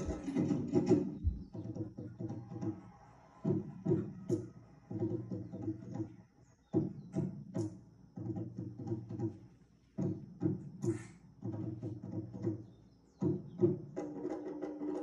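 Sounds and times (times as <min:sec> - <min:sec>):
drum strokes: 0:00.0 - 0:12.6.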